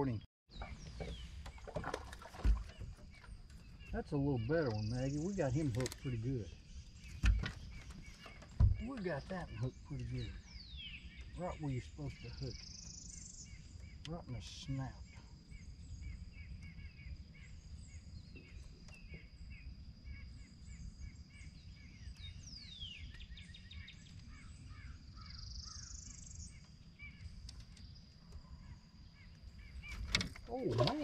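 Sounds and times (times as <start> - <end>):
birds calling: 0.0 - 31.0
wind rumbling on microphone: 0.0 - 31.0.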